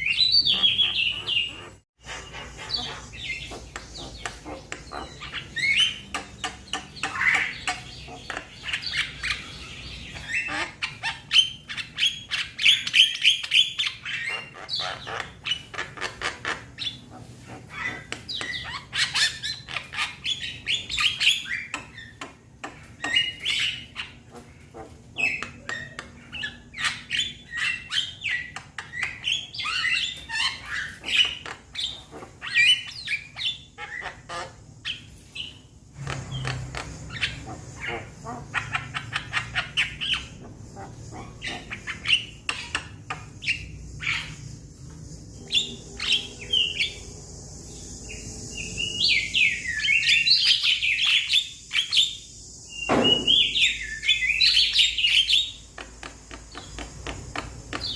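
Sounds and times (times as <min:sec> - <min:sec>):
myna bird squawking and chattering: 0:00.0 - 0:57.9.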